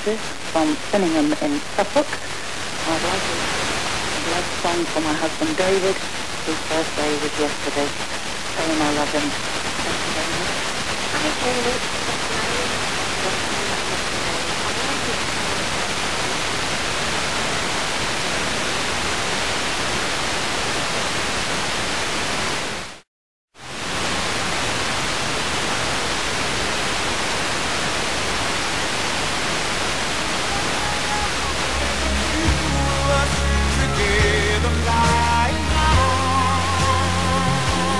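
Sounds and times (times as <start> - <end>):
radio static hiss: 0.0 - 23.0, 23.6 - 37.9.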